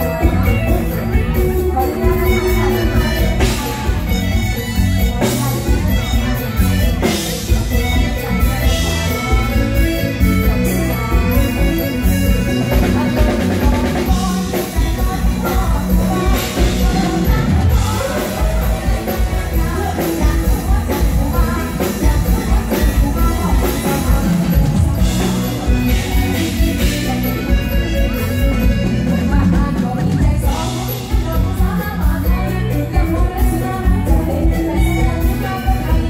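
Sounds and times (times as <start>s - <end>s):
bass-heavy drum beat: 0.0s - 36.0s
live band music through pa: 0.0s - 36.0s
woman singing into microphone: 0.0s - 36.0s.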